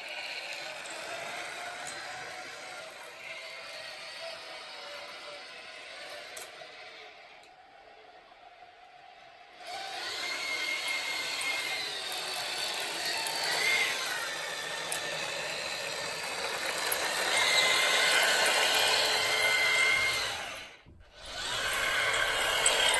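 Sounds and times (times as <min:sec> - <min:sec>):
electric motors whining: 0:00.0 - 0:22.9.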